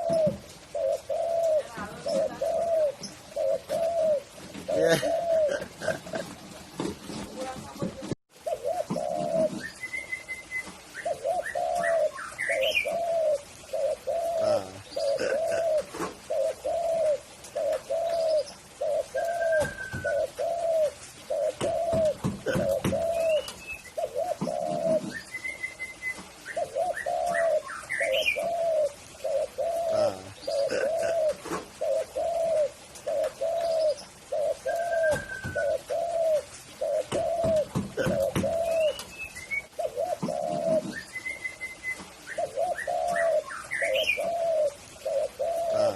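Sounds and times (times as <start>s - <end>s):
dove cooing: 0.0s - 45.9s
small birds chirping: 0.0s - 45.9s.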